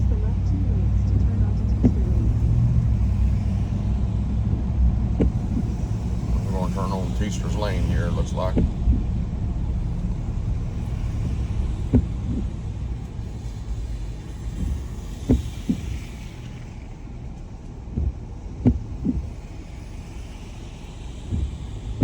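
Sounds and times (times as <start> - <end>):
rumble of tyres and engine: 0.0 - 22.0
windshield wipers knocking: 0.1 - 22.0.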